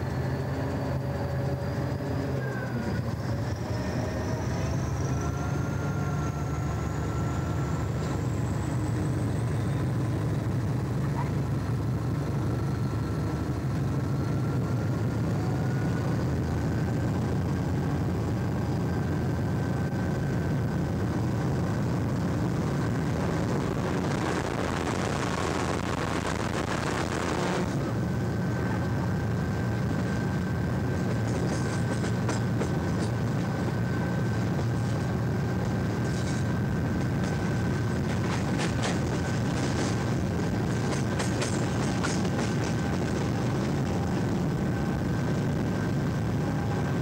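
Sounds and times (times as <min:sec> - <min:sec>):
train engine and wheels rumbling: 0:00.0 - 0:47.0.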